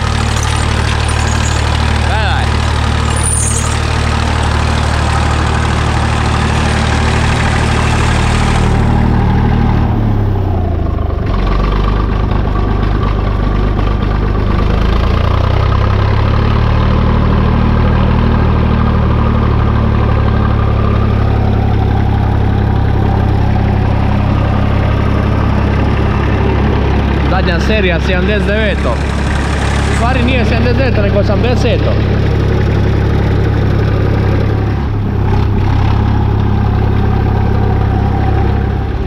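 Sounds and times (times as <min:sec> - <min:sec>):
diesel tractor engine idling: 0:00.0 - 0:39.0.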